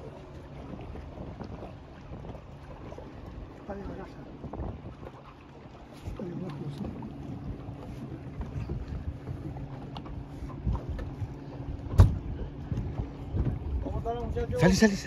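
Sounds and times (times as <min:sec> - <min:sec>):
water slapping against boat: 0:00.0 - 0:15.0
wind on microphone: 0:00.0 - 0:15.0.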